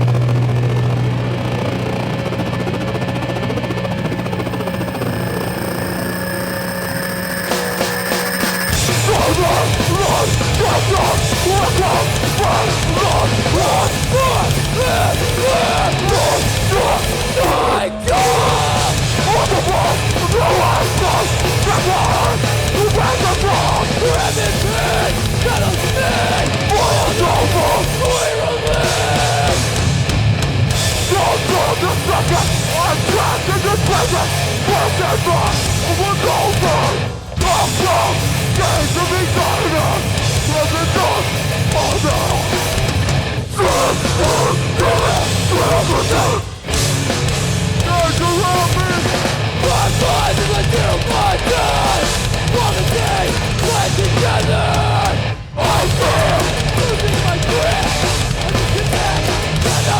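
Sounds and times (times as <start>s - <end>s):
hardcore band playing live: 4.1s - 59.9s.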